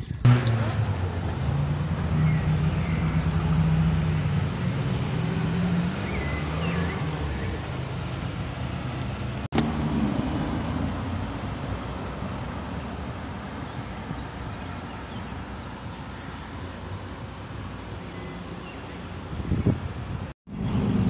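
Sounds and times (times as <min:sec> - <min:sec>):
low traffic hum: 0:00.0 - 0:21.0
motor vehicle passing: 0:00.2 - 0:21.0.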